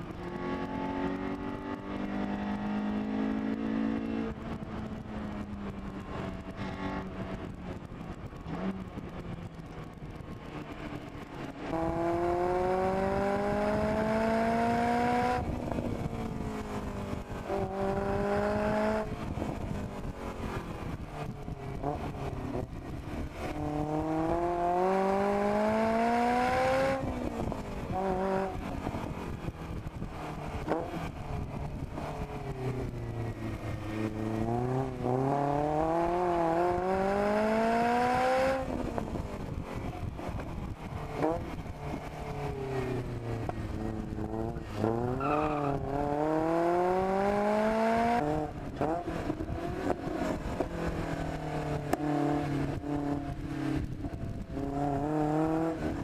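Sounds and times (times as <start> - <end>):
car engine accelerating hard: 0.0 - 4.6, 11.6 - 20.2, 20.9 - 29.1, 29.7 - 40.4, 41.2 - 56.0.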